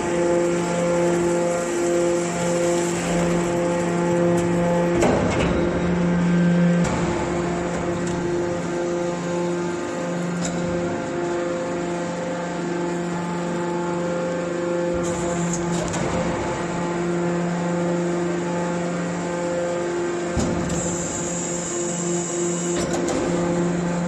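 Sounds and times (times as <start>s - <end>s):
hydraulic baler humming: 0.0s - 24.0s.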